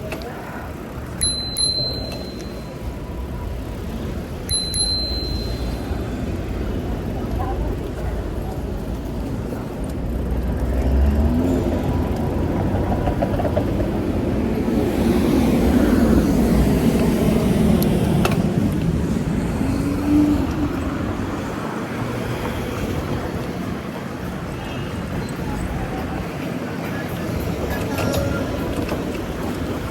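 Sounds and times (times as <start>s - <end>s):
cars passing: 0.0s - 29.9s.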